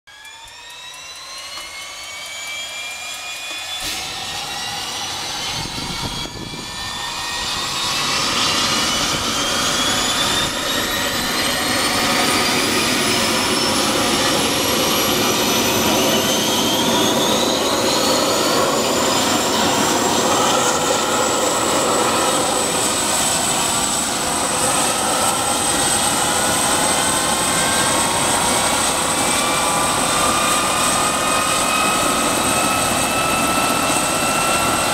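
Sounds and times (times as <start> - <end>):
helicopter rotor noise: 0.1 - 34.9
helicopter turbine whine: 0.1 - 34.9.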